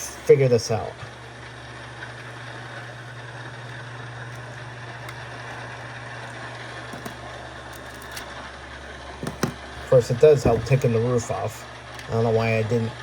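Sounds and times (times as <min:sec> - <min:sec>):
low background hum with hiss: 0:00.0 - 0:13.0.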